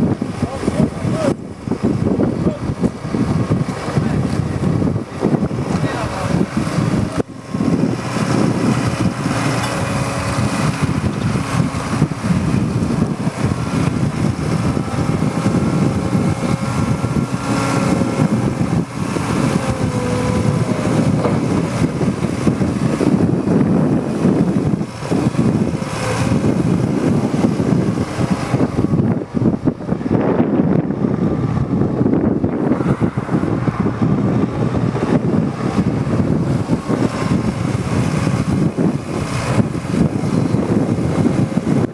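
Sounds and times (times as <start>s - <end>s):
excavator engine and hydraulics: 0.0s - 41.9s.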